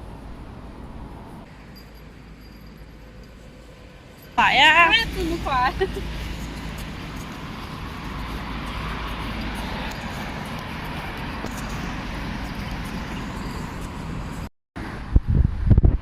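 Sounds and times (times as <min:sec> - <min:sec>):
vehicle low rumble: 0:00.0 - 0:16.0.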